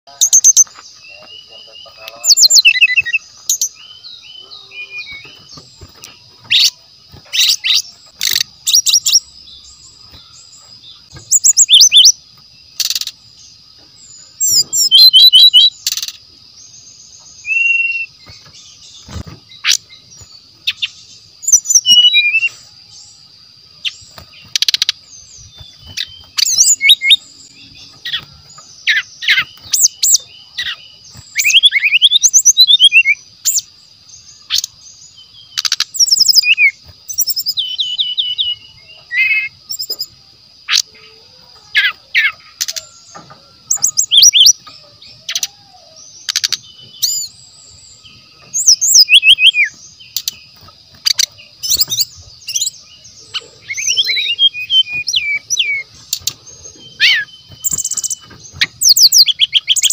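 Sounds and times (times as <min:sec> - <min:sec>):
bird singing whistled notes: 0:00.1 - 0:59.9.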